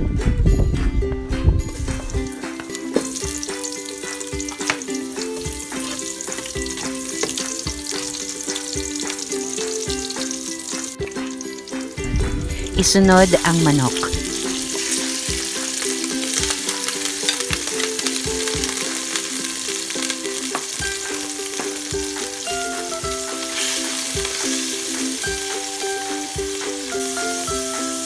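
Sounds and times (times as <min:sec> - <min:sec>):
background music: 0:00.0 - 0:28.0
chicken sizzling in hot oil: 0:01.8 - 0:28.0.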